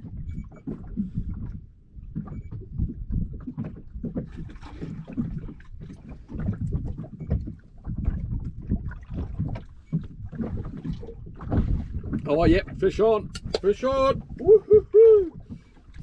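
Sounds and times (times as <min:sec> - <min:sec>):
small waves slapping boat hull: 0:00.0 - 0:16.0.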